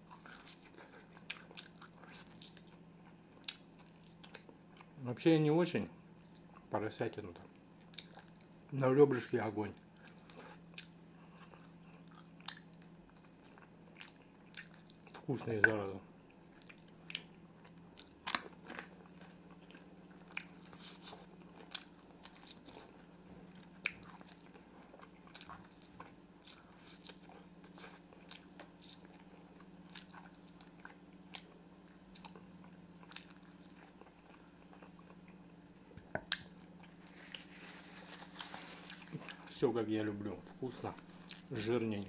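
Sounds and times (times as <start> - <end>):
man chewing meat: 0.0 - 5.0, 7.4 - 8.7, 9.8 - 39.6, 40.4 - 41.6.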